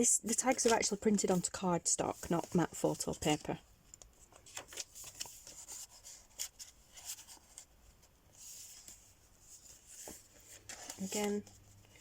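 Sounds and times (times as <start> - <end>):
paper pages rustling: 0.3 - 12.0.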